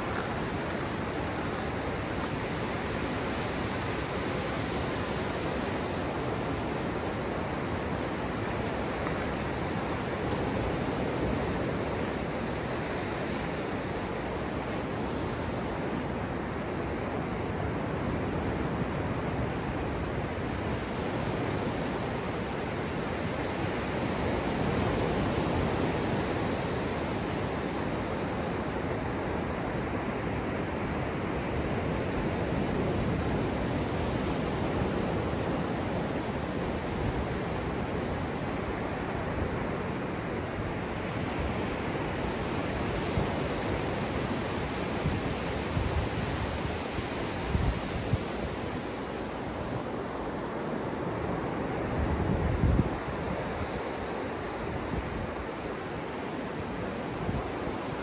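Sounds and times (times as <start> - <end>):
ocean surf washing on beach: 0.0 - 58.0.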